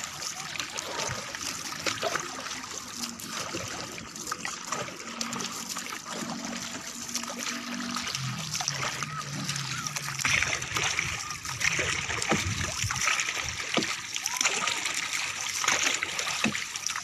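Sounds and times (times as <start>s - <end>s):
water splashing against boat hull: 0.0s - 17.0s.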